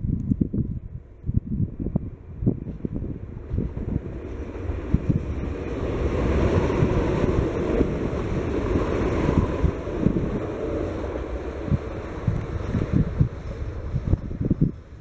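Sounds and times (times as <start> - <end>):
wind buffeting microphone: 0.0 - 15.0
train rolling past: 1.7 - 15.0.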